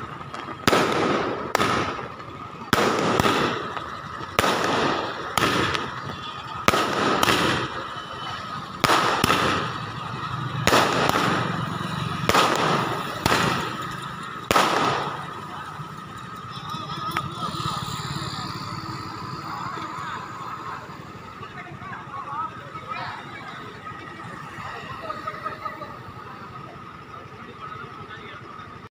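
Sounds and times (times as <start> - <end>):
firecrackers banging: 0.0 - 28.9.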